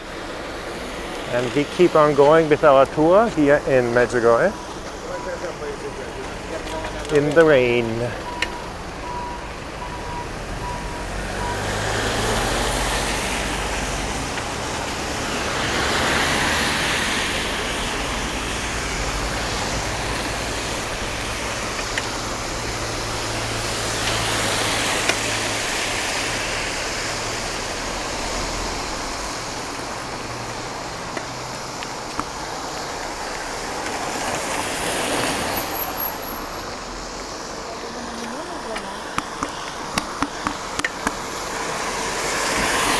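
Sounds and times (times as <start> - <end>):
tyre hiss on wet road: 0.0 - 42.9.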